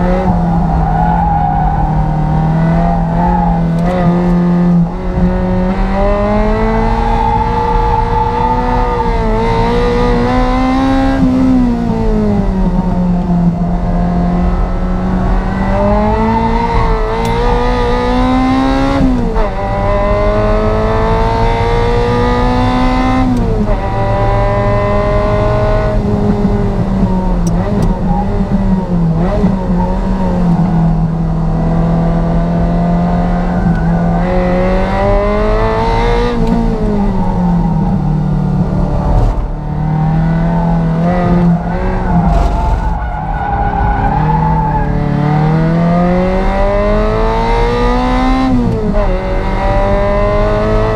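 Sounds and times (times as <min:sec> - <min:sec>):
race car engine revving: 0:00.0 - 0:50.9.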